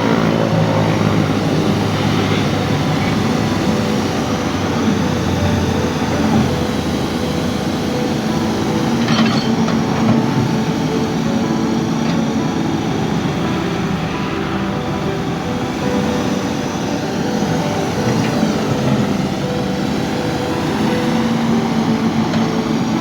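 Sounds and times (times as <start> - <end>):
wash of noise: 0.0 - 9.1, 9.8 - 23.0
engine drone: 0.0 - 23.0.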